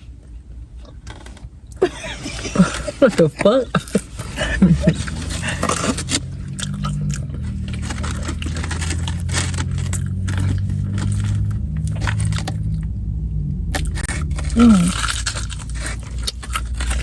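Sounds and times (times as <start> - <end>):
steady low hum: 0.0 - 17.0
crunchy chewing of fried food: 0.8 - 12.9, 13.5 - 17.0.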